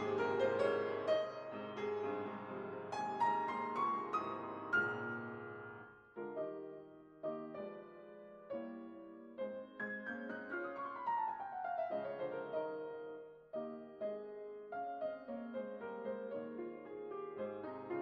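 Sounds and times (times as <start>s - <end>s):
piano notes and chords: 0.0s - 18.0s.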